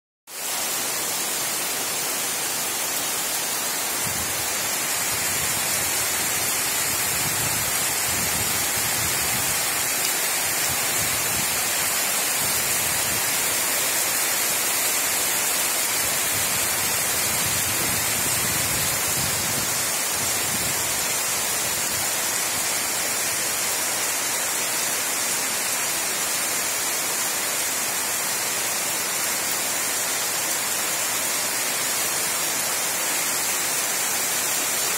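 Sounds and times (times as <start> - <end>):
heavy rain pouring: 0.3 - 34.9.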